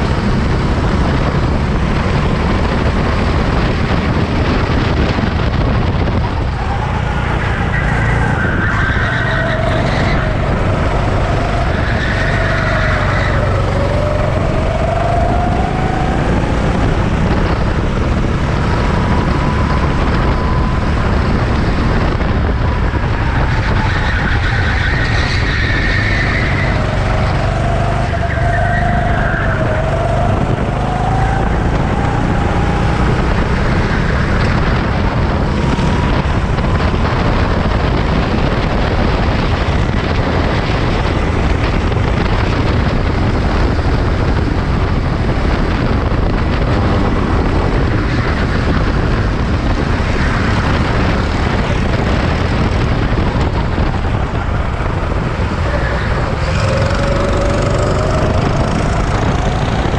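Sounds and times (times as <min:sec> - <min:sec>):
racing motorcycle engines: 0:00.0 - 0:59.9
steady loud rumble: 0:00.0 - 0:59.9.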